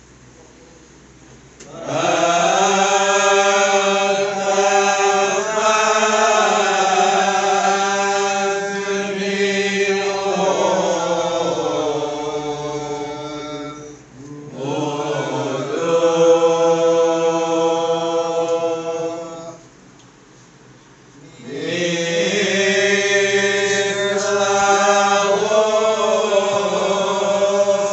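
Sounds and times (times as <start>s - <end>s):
group of men chanting in unison: 1.7s - 13.8s, 14.5s - 19.4s, 21.4s - 27.9s.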